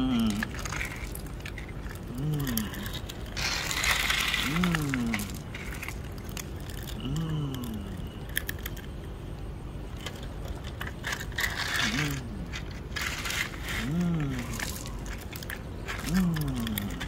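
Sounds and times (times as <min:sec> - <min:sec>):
gravel rattling and scraping: 0:00.0 - 0:17.0.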